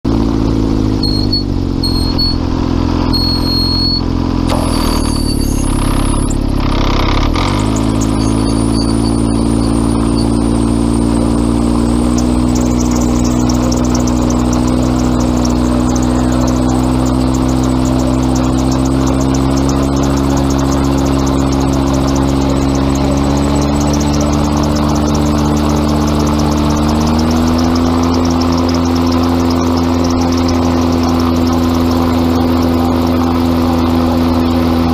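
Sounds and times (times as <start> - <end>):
gyrocopter engine and propeller: 0.0 - 34.9.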